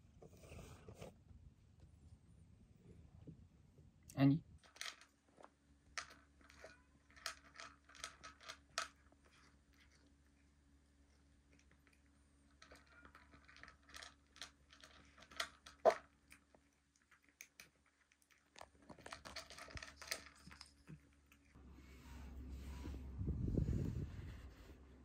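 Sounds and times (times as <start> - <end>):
crackling and rustling: 4.6 - 25.0.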